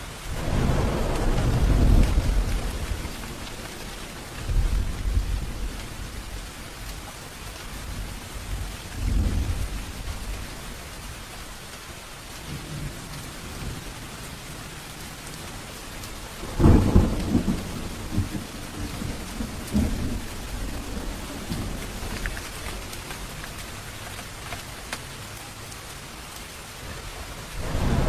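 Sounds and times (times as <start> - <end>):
steady rain: 0.0 - 28.0
thunder rumbling: 0.2 - 11.2, 12.4 - 24.9, 27.1 - 28.0.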